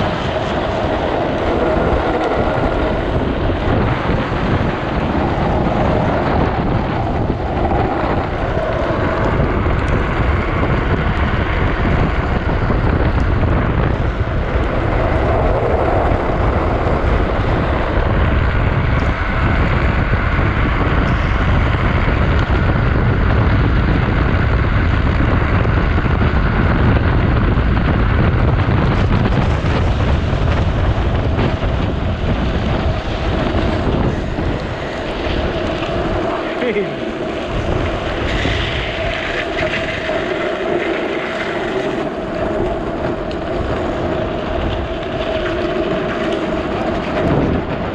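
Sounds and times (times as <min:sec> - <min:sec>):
wheels on wet asphalt: 0:00.0 - 0:47.9
wind buffeting microphone: 0:00.0 - 0:47.9.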